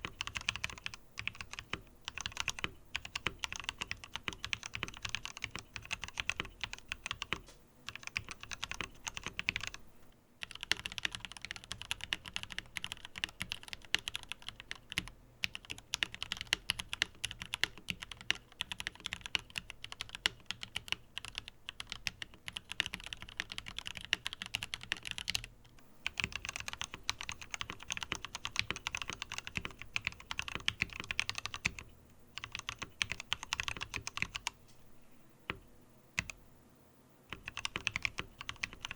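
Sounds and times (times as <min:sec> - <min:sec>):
mechanical keyboard typing: 0:00.0 - 0:09.8, 0:10.4 - 0:34.6, 0:36.2 - 0:36.4, 0:37.3 - 0:38.9.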